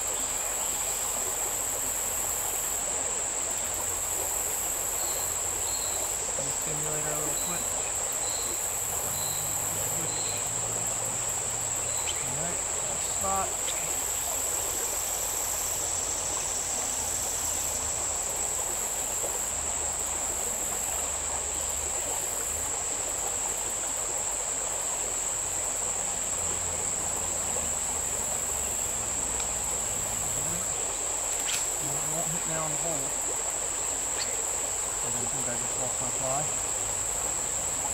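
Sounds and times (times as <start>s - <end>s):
insects trilling: 0.0s - 37.9s
stream running water: 0.0s - 37.9s.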